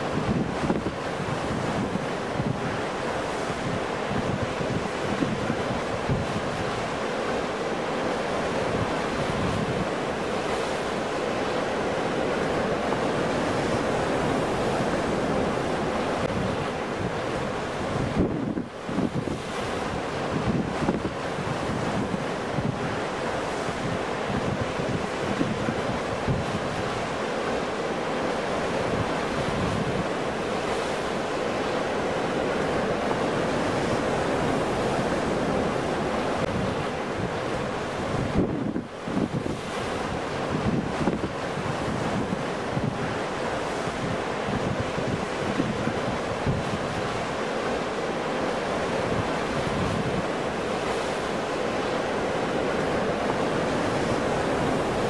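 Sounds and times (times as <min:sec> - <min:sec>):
ocean waves breaking into surf: 0:00.0 - 0:55.0
wind rumbling on microphone: 0:00.0 - 0:55.0.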